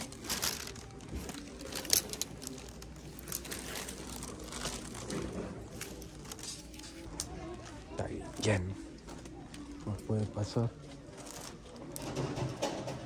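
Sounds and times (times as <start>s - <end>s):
clothes and hangers rustling: 0.0s - 13.0s.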